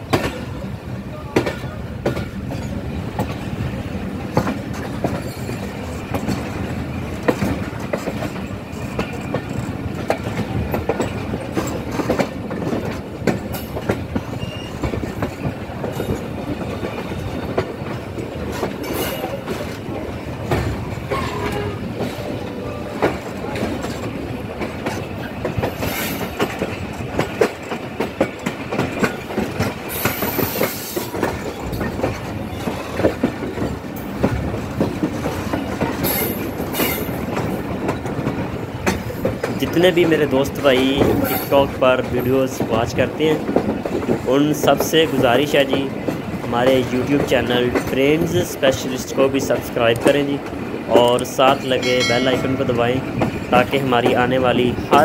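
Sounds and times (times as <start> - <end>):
train rumbling: 0.0 - 55.0
wheels clattering over rail joints: 0.0 - 55.0.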